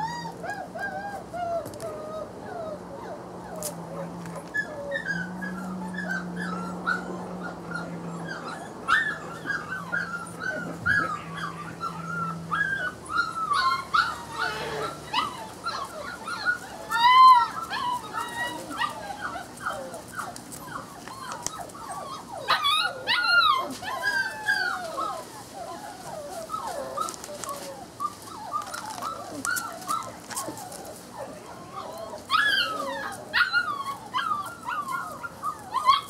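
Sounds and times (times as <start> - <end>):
puppy whimpering and yipping: 0.0 - 36.0
puppy yelp: 4.4 - 36.0.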